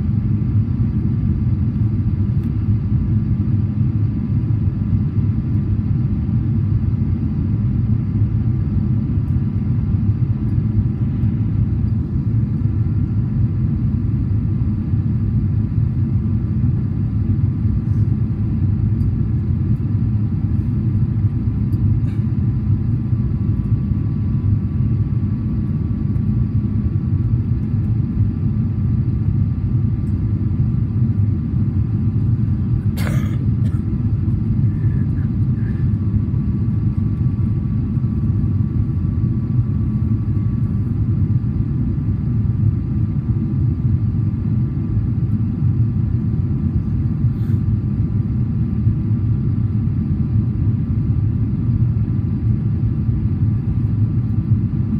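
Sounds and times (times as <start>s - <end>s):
airplane cabin engine rumble: 0.0s - 54.9s
faint steady whine: 0.0s - 54.9s.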